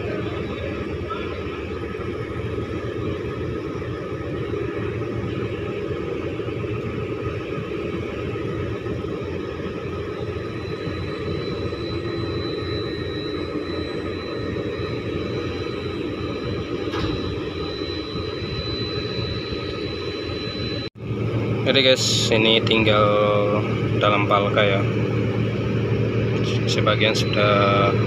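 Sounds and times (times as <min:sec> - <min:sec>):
crane machinery drone: 0:00.0 - 0:28.0
thin high whine: 0:00.0 - 0:28.0.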